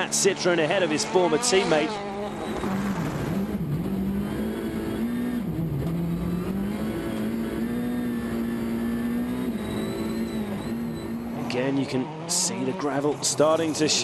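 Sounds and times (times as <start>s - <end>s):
rally engine at high revs: 0.0s - 14.0s.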